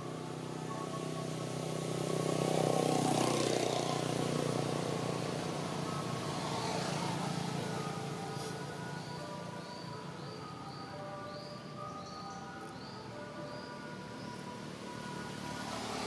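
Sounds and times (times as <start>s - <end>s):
motor vehicle passing by: 0.0s - 10.6s, 11.3s - 16.0s.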